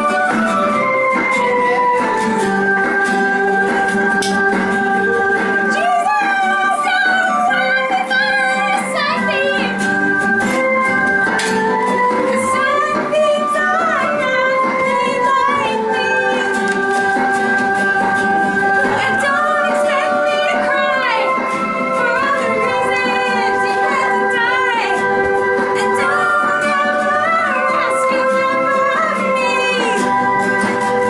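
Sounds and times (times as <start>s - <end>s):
live band music: 0.0s - 31.0s
person singing: 0.0s - 31.0s.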